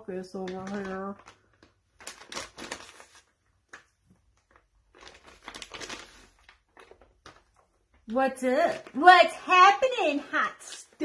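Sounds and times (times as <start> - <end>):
foil bag crinkling: 0.2 - 9.1.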